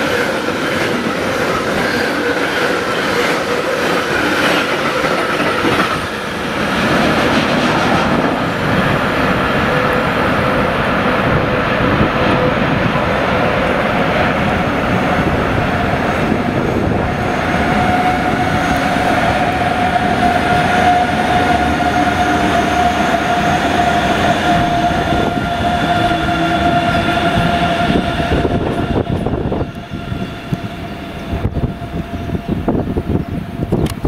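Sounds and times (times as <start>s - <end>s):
electric locomotive whine: 0.0s - 34.0s
train wheels rumbling on rails: 0.0s - 34.0s.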